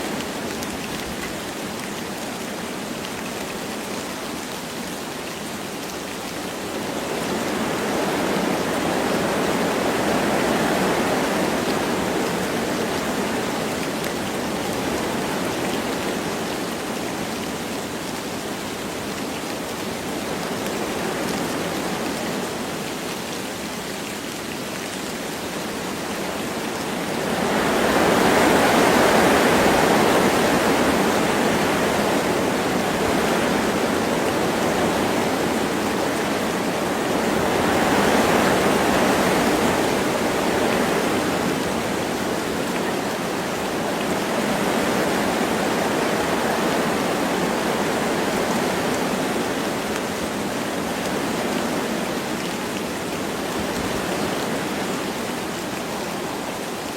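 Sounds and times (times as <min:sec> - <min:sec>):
light rain: 0:00.0 - 0:56.9
wind through trees: 0:00.0 - 0:56.9.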